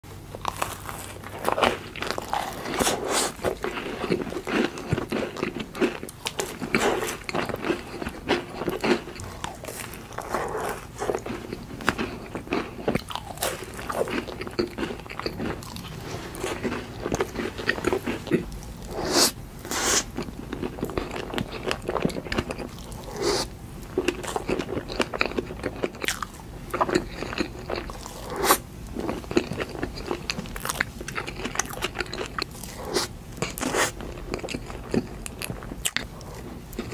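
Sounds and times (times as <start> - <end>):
person chewing and smacking: 0.3 - 36.9.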